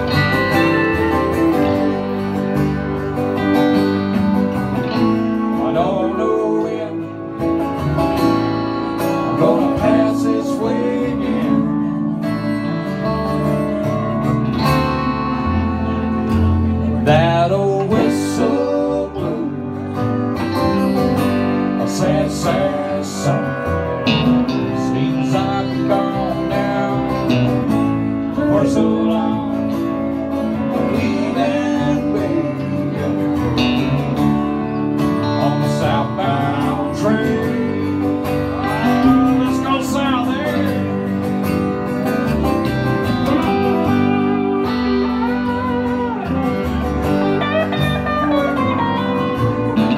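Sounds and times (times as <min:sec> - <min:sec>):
electric guitar lead with bent notes: 0:00.0 - 0:49.9
steady low backing: 0:00.0 - 0:49.9
strummed acoustic guitar: 0:00.0 - 0:49.9.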